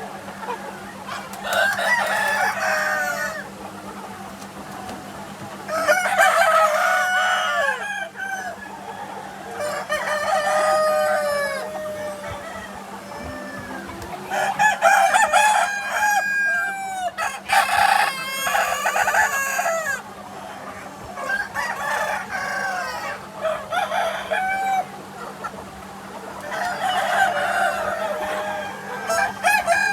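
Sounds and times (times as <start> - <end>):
roosters crowing: 0.0 - 3.8, 4.8 - 29.9
hens clucking: 0.0 - 29.9.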